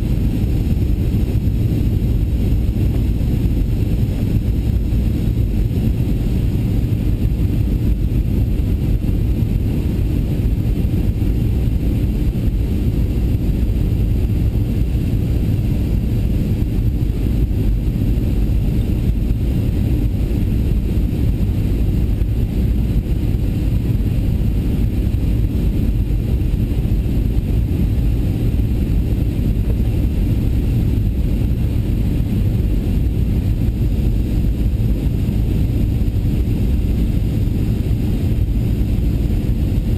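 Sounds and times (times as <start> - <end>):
jet engine low rumble: 0.0 - 39.9.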